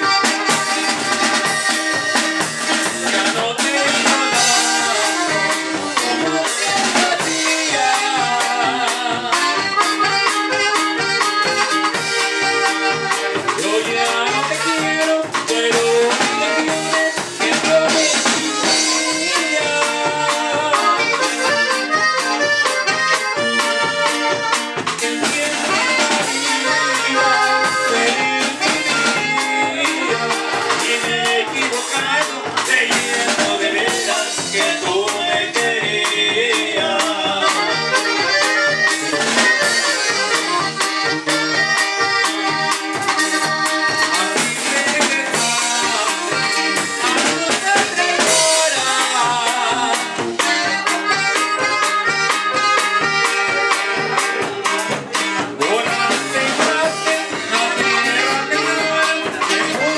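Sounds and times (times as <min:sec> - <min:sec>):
alto saxophone: 0:00.0 - 0:35.4, 0:36.2 - 0:59.9
button accordion: 0:00.0 - 0:59.9
drum kit beat: 0:00.0 - 0:59.9
guitar: 0:00.0 - 0:59.9.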